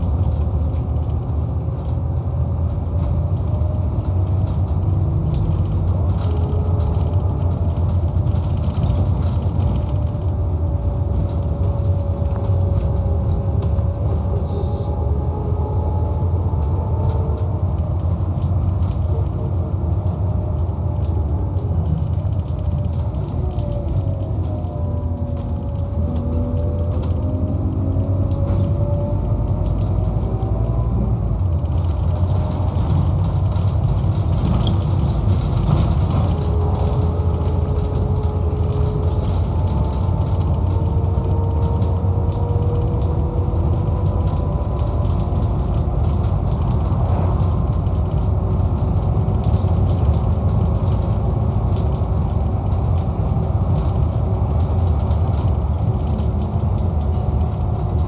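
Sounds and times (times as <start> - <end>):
bus engine rumble: 0.0 - 58.0
interior rattles and creaks: 0.0 - 58.0.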